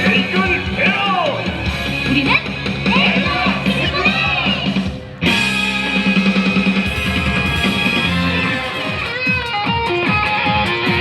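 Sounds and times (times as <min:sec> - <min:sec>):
upbeat show song with guitar: 0:00.0 - 0:11.0.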